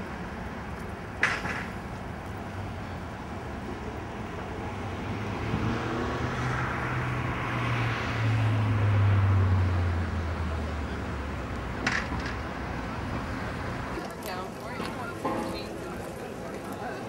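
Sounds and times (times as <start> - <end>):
engine passing by: 2.3 - 17.0.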